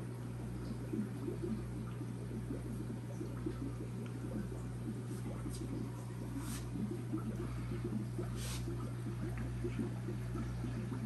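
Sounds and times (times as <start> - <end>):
aquarium pump hum: 0.0 - 11.0
water bubbling and trickling: 0.0 - 11.0.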